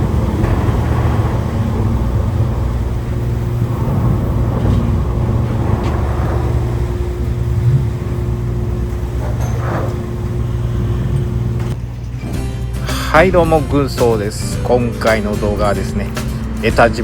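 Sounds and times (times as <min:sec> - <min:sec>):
ship engine drone: 0:00.0 - 0:17.0
steady hum: 0:00.0 - 0:17.0.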